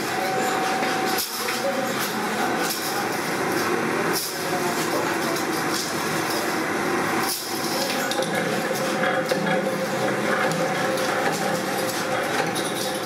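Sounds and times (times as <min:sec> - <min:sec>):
metal-working machinery clatter: 0:00.0 - 0:13.0.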